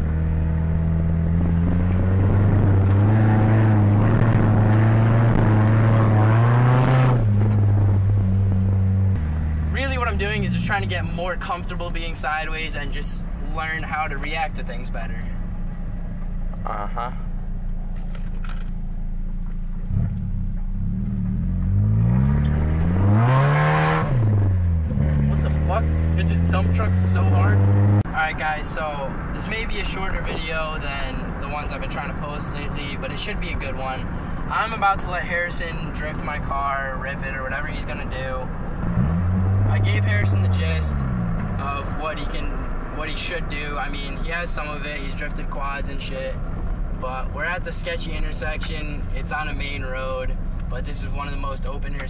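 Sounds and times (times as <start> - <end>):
car engine running: 0.0 - 52.0.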